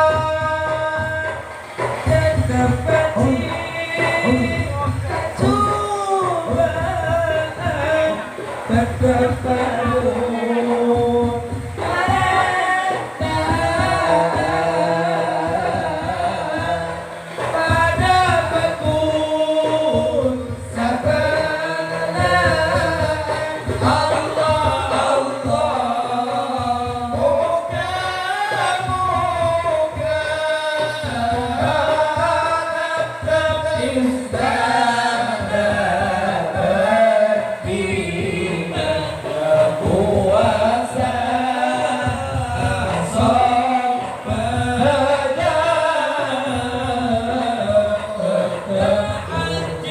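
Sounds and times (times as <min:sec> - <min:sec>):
voices singing devotional song: 0:00.0 - 0:49.9.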